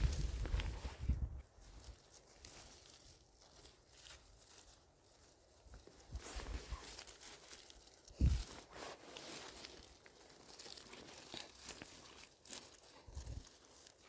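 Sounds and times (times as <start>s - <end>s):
rustling moss and twigs: 0.0s - 14.0s.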